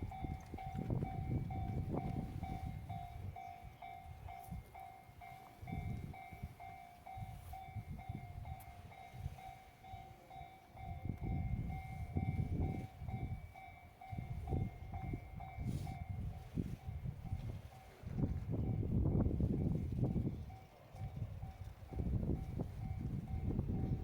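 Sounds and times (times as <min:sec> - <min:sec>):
level crossing warning bell: 0:00.0 - 0:24.0
train rumbling on tracks: 0:00.0 - 0:24.0.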